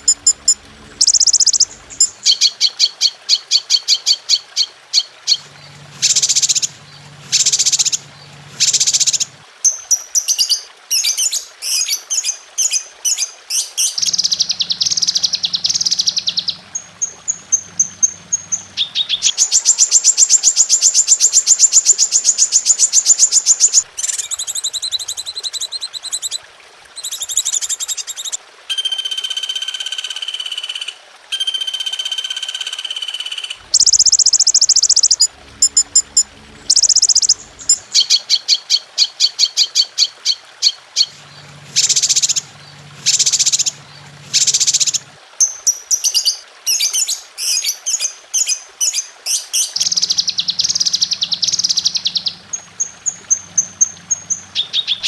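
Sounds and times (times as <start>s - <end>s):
songbird calls: 0.0s - 26.4s, 27.0s - 55.0s.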